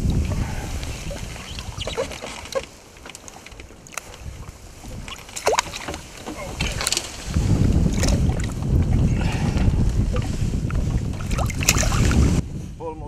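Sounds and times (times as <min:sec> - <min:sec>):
water sloshing against boat: 0:00.0 - 0:12.4.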